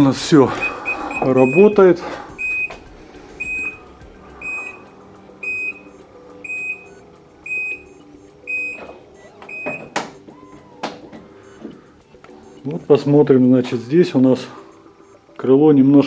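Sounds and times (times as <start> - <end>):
car warning chime beeping: 0.0 - 16.0.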